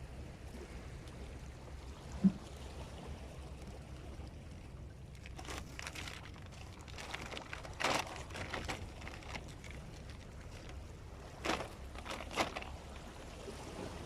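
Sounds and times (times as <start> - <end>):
water splashing and lapping: 0.0 - 14.0
low wind rumble: 2.7 - 14.0.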